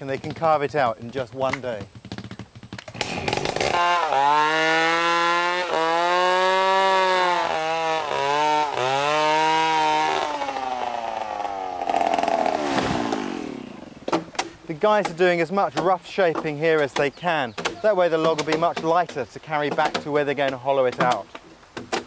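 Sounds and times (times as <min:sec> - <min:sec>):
chainsaw cutting log: 0:02.8 - 0:22.0.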